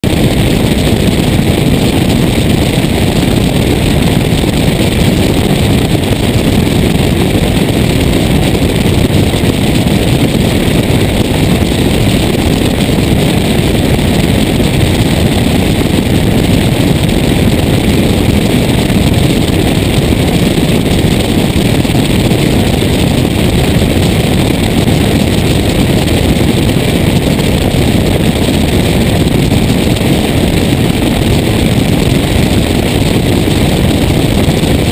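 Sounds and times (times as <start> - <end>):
propeller aircraft engine drone: 0.0 - 34.9
wind rushing over camera: 0.0 - 34.9.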